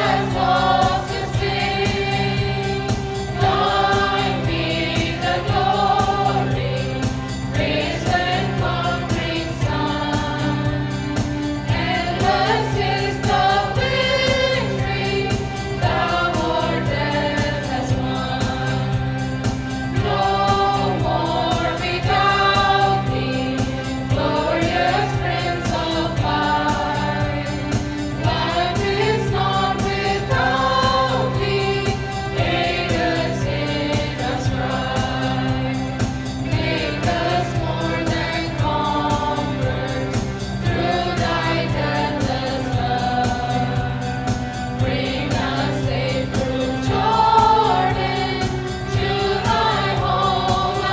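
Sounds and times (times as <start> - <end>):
mixed choir singing: 0.0 - 50.9.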